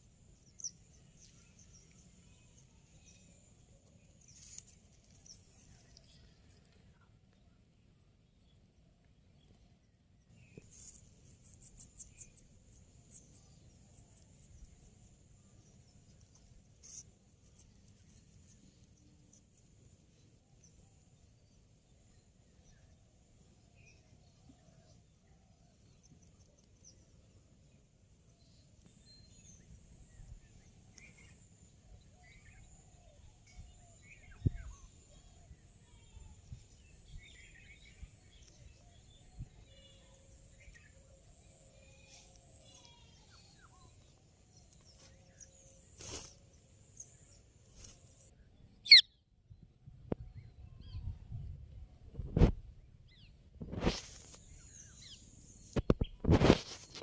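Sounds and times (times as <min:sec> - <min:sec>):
faint bird chirps: 0:00.0 - 0:51.5.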